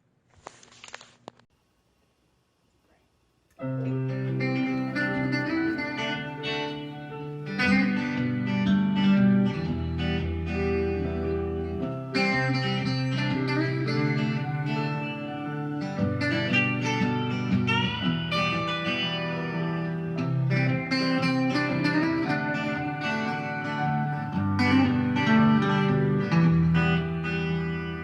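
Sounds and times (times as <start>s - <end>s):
instrumental music with held notes: 3.6s - 28.0s.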